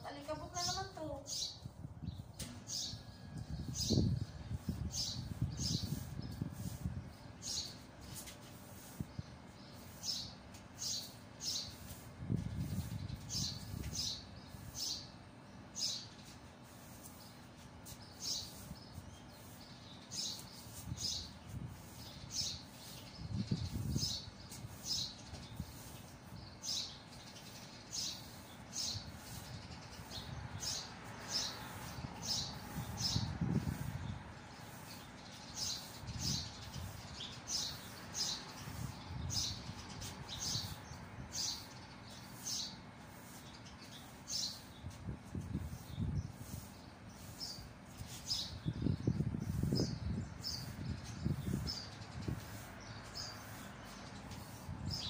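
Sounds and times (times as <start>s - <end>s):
broom sweeping tiled floor: 3.6s - 55.0s.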